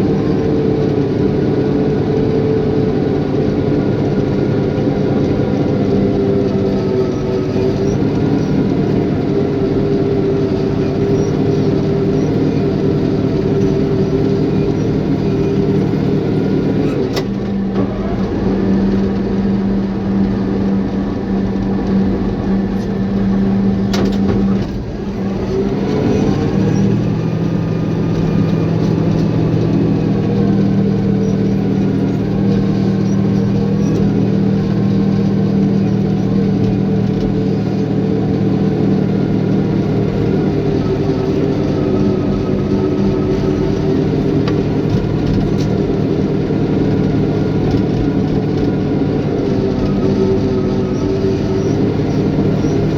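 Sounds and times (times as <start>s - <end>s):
bulldozer diesel engine running: 0.0s - 52.9s.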